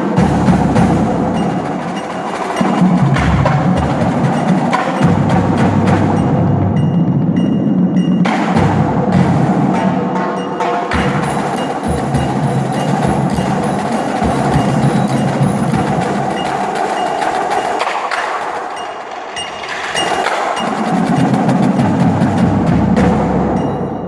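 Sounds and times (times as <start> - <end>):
marching drums: 0.0 - 24.0
chimes and marimba: 0.1 - 24.0.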